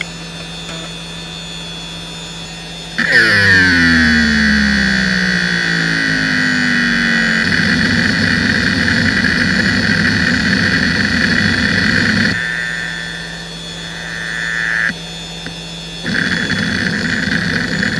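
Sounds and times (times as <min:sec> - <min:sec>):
hard drive head seek chatter: 0:00.0 - 0:17.9
hard drive spindle whine: 0:00.0 - 0:17.9.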